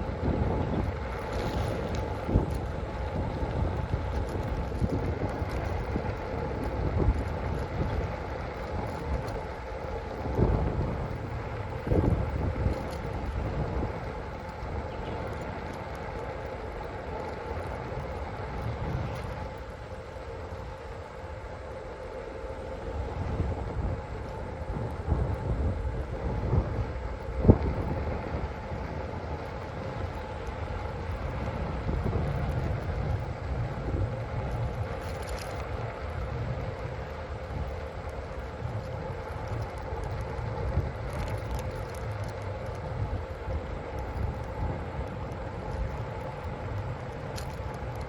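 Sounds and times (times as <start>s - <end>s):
faint even hum: 0.0s - 48.0s
faint steady whine: 0.0s - 48.0s
low riding rumble: 0.0s - 48.0s
wind rushing on microphone: 0.0s - 48.0s.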